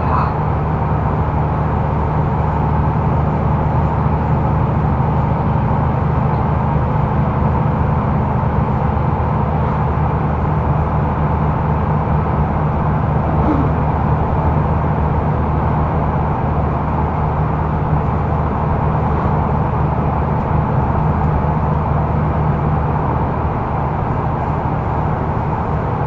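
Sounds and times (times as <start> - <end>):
bus engine drone: 0.0 - 26.0
road and rolling noise: 0.0 - 26.0.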